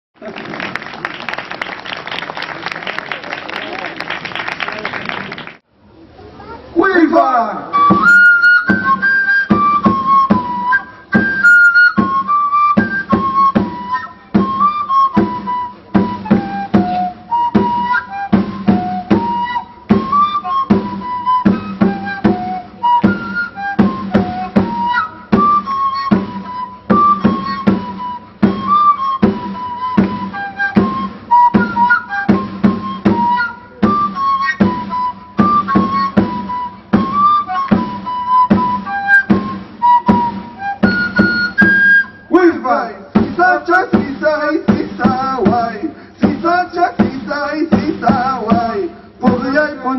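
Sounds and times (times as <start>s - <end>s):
reedy duct flute melody: 7.0s - 49.9s
large drum beating: 7.8s - 49.9s.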